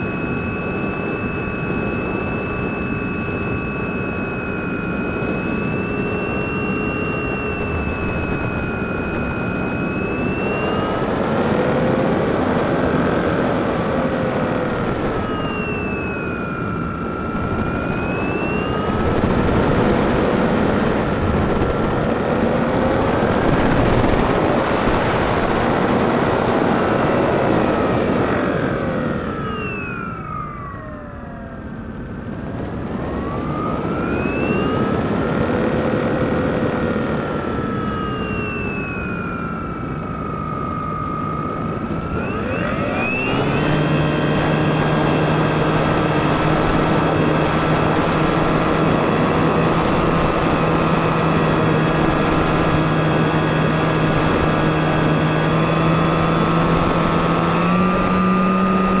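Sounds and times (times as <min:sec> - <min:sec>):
model plane electric motor whine: 0:00.0 - 0:59.0
wind noise: 0:00.0 - 0:59.0.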